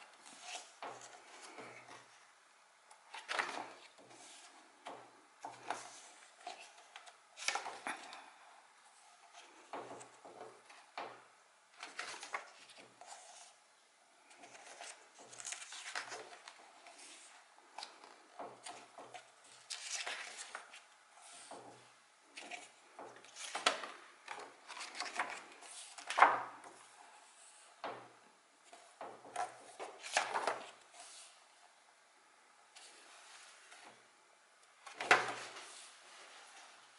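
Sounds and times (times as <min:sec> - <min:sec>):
book pages turning: 0:00.0 - 0:02.2, 0:02.9 - 0:08.3, 0:09.0 - 0:13.6, 0:14.2 - 0:28.0, 0:28.6 - 0:31.4, 0:34.8 - 0:36.9.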